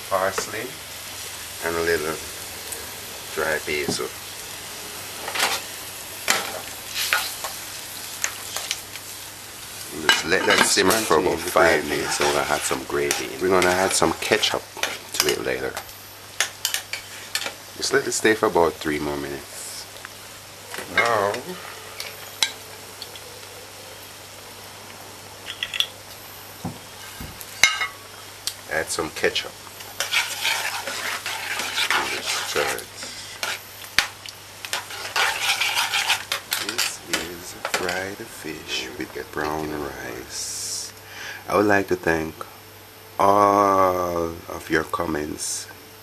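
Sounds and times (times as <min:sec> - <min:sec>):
gravy sizzling and sputtering in pan: 0:00.0 - 0:46.0.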